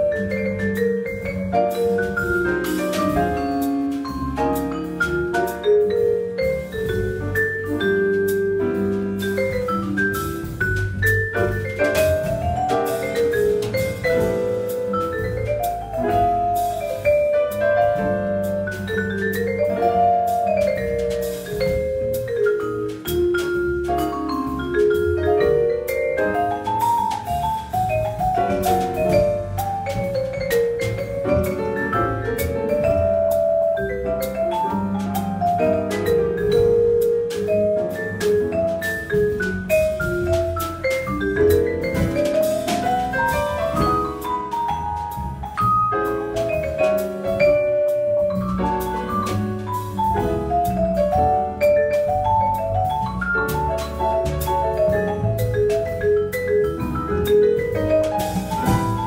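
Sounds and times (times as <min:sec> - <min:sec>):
double bass: 0:00.0 - 0:59.0
drum kit: 0:00.0 - 0:59.0
vibraphone jazz solo: 0:00.0 - 0:59.0.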